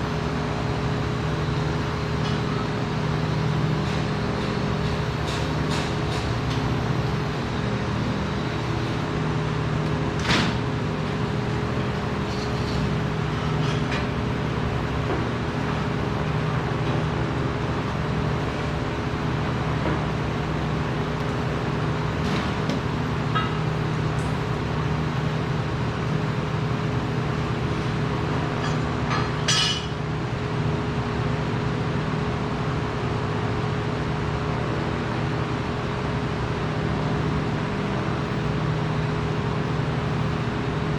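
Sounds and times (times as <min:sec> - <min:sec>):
workshop machinery drone: 0:00.0 - 0:40.9.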